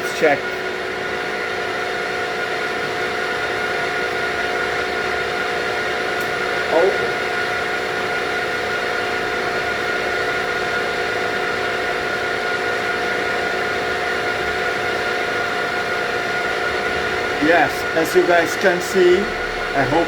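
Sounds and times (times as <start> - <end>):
spindle motor whine: 0.0 - 20.0.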